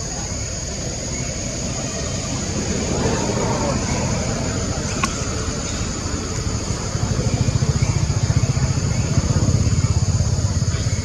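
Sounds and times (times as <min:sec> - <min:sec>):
motor vehicle engine rumbling: 0:01.3 - 0:11.0.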